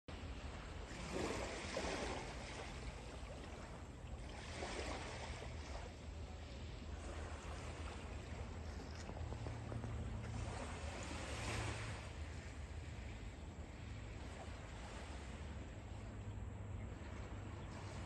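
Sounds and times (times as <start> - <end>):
waves washing on pebbles: 0.1 - 15.6
wind rumbling on microphone: 0.1 - 18.0.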